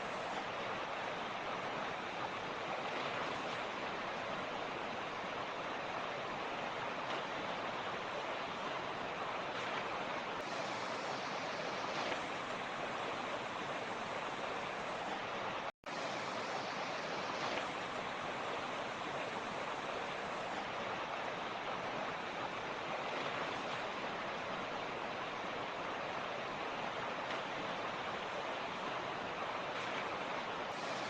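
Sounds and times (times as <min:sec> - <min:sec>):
creek rushing over rocks: 0:00.0 - 0:31.0.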